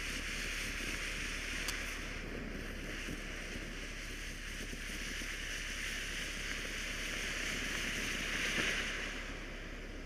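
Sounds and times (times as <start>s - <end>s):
firework fountain hissing: 0.0s - 10.0s.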